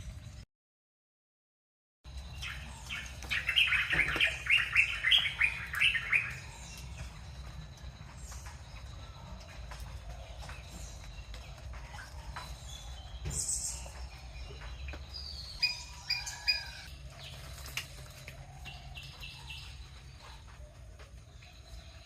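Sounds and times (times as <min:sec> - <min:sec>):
birds chirping: 0:02.1 - 0:22.0.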